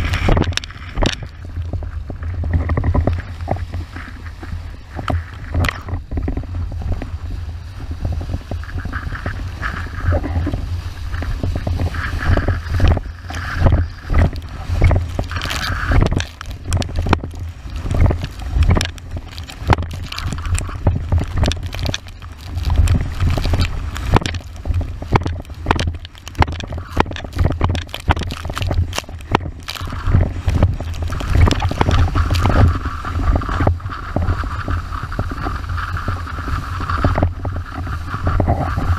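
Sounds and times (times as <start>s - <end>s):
board hull slapping water: 0.0s - 38.9s
wind buffeting microphone: 0.0s - 38.9s.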